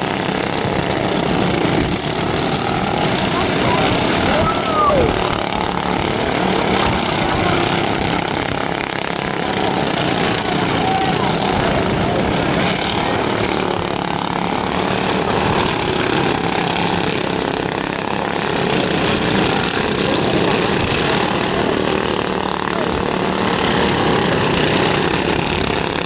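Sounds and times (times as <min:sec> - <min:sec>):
lawn mower engines racing: 0:00.0 - 0:26.0.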